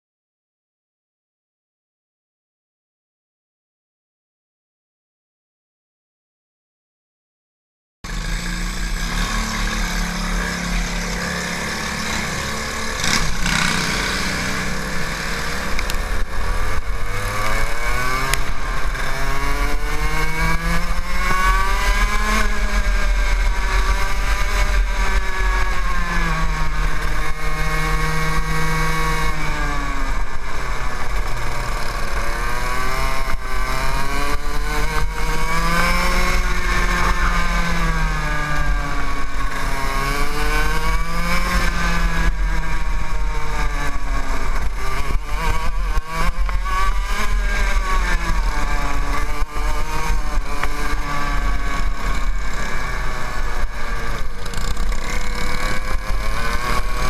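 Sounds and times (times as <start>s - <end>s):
kart engine revving: 8.1s - 57.0s.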